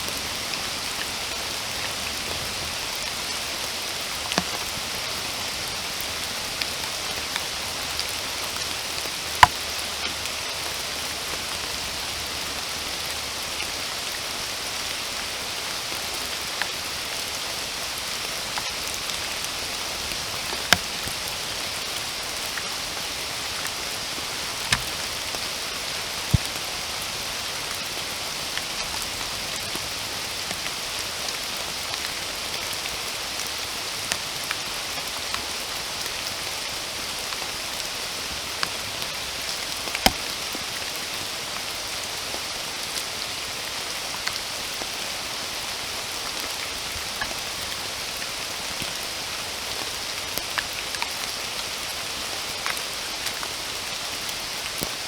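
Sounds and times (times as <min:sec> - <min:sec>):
steady rainfall hiss: 0:00.0 - 0:55.0.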